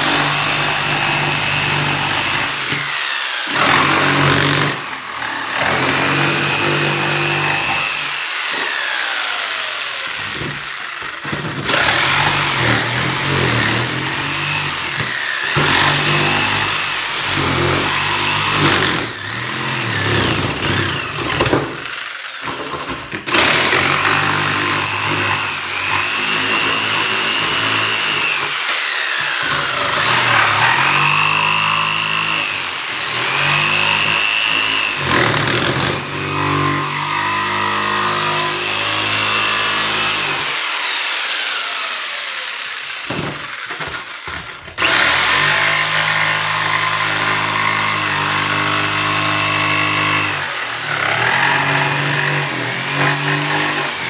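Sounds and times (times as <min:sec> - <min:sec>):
jigsaw cutting plywood: 0:00.0 - 0:54.0.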